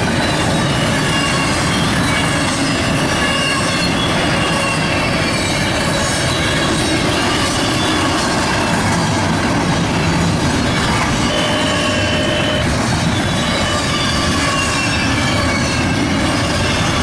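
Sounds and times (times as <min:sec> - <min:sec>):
high wheel squeals: 0:00.0 - 0:09.1, 0:10.0 - 0:17.0
train wheels rumbling on rails: 0:00.0 - 0:17.0.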